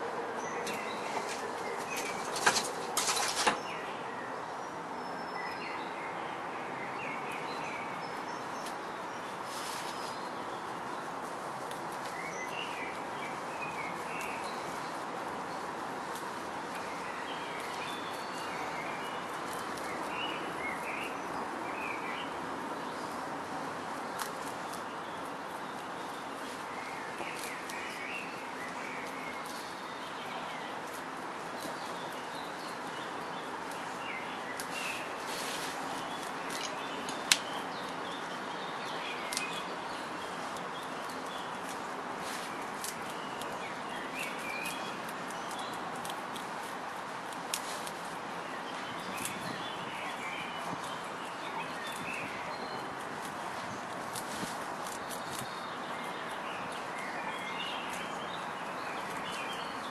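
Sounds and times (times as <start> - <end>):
outdoor background hiss: 0.0 - 59.9
small birds chirping: 0.0 - 59.9.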